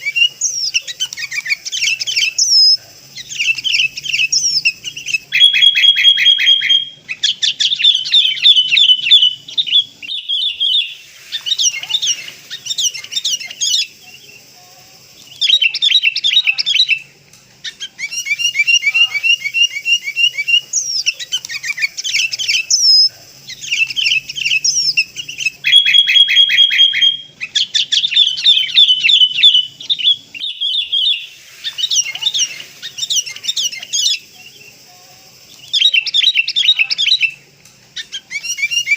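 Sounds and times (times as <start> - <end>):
bulbuls chattering calls: 0.0 - 38.9.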